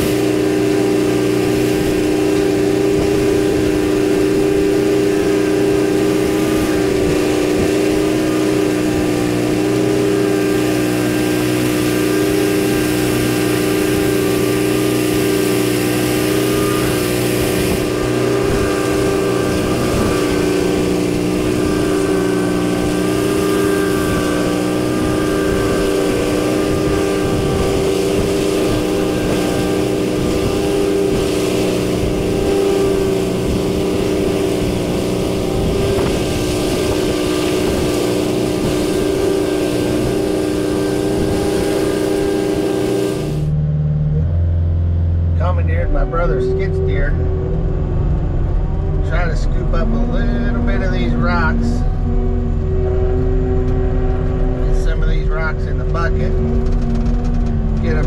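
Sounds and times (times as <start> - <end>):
straw blower engine running: 0.0 - 58.0.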